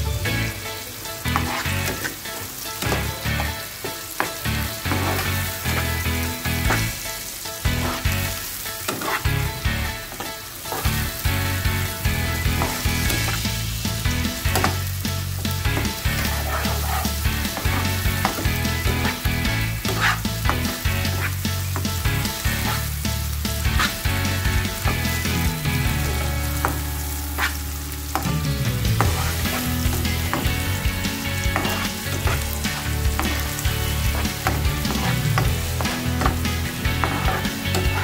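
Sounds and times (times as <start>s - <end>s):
onions sizzling in oil: 0.1s - 38.0s
spatula scraping pan: 1.2s - 38.0s.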